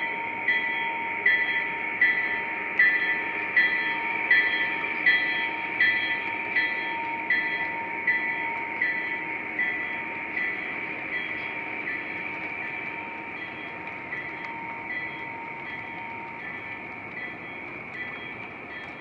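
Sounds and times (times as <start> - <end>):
model locomotive bell ringing: 0.0 - 19.0
train rumbling on track: 0.0 - 19.0.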